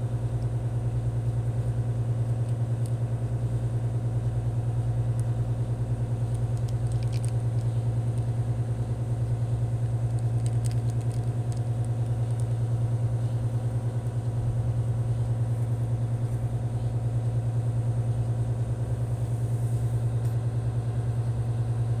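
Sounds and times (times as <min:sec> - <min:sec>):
pulsing low motor drone: 0:00.0 - 0:22.0.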